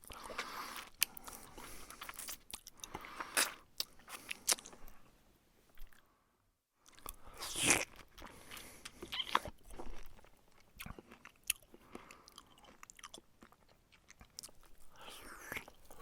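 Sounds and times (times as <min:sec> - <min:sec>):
person chewing crunchy food: 0:00.0 - 0:05.1, 0:06.8 - 0:16.0.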